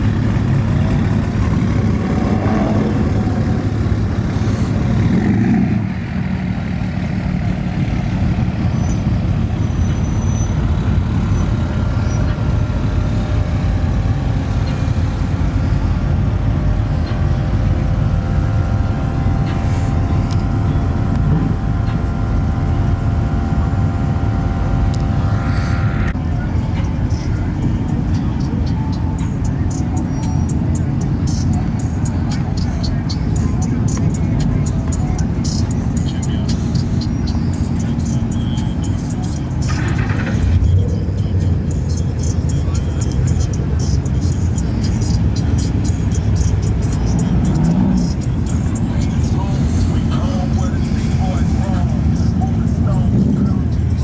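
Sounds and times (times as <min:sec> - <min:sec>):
faint steady tones: 0:00.0 - 0:54.0
truck engine running loudly: 0:00.0 - 0:54.0.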